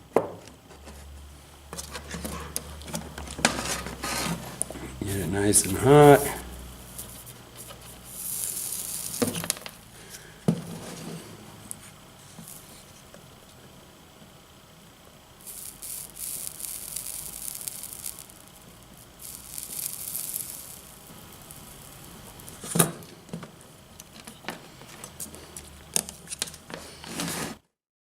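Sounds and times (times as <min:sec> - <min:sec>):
flux sizzling and crackling: 0:00.9 - 0:27.5.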